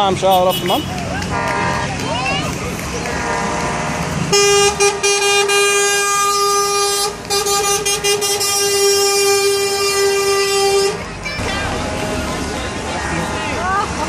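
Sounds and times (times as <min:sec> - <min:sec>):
truck horn blast: 0:00.3 - 0:02.0, 0:03.0 - 0:13.8.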